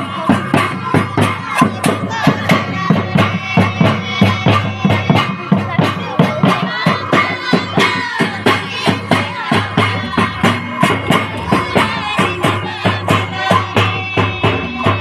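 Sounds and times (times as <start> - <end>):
hand-beaten barrel drums: 0.0 - 15.0.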